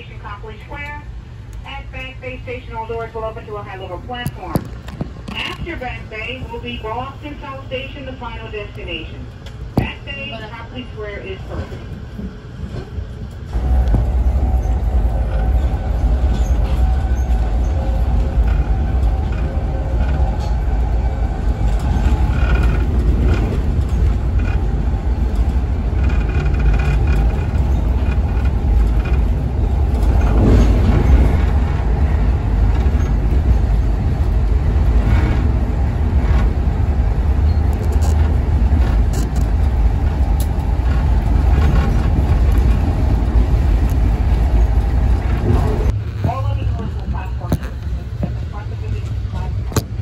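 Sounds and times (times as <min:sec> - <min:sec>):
train rushing: 0:00.0 - 0:50.0
train wheels rumbling on rails: 0:00.0 - 0:50.0.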